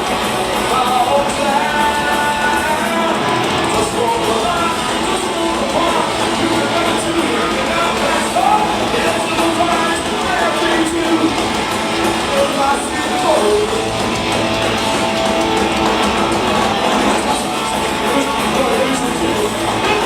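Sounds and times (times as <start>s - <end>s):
live punk rock band: 0.0s - 20.0s.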